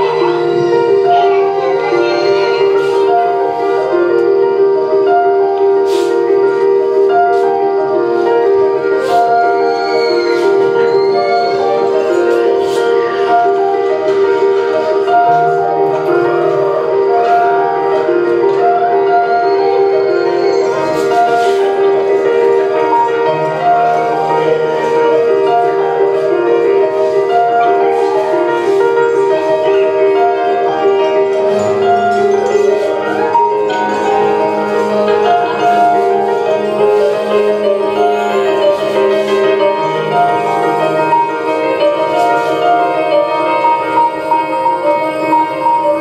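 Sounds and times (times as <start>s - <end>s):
mallet percussion melody: 0.0s - 46.0s.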